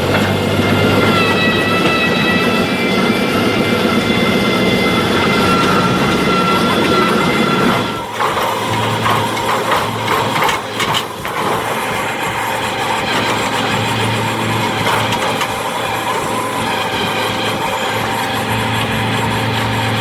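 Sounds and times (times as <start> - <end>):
heavy machine engine humming: 0.0 - 20.0.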